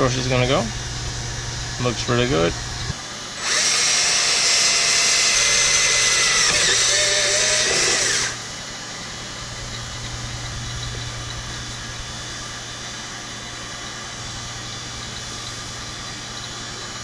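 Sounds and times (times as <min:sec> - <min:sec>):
steady low hum: 0:00.0 - 0:17.0
electric drill motor whine: 0:01.3 - 0:17.0.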